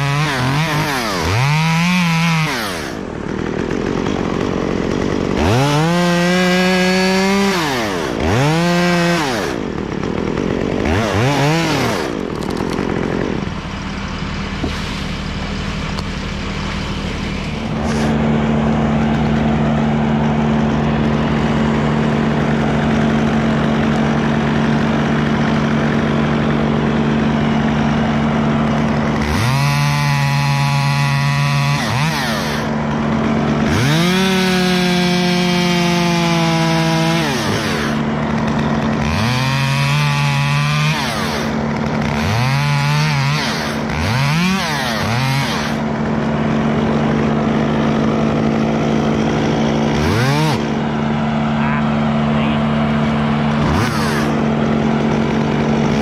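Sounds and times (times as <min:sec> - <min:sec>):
chainsaw revving and cutting wood: 0:00.0 - 0:56.0.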